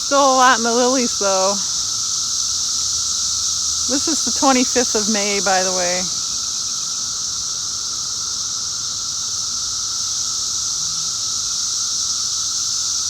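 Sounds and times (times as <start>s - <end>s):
cicadas droning buzz: 0.0s - 13.0s.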